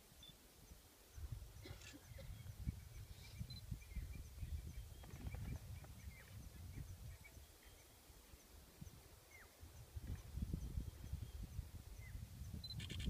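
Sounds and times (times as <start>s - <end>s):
faint bird chirps: 0.2s - 13.0s.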